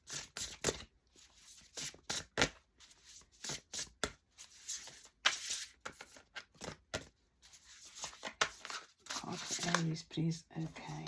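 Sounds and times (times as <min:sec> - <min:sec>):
cards being shuffled: 0:00.1 - 0:10.0.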